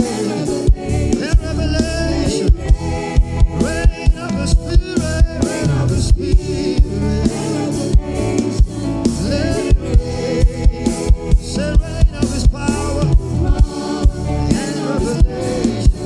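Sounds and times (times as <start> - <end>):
gospel band playing: 0.0 - 16.0
person singing: 0.0 - 16.0.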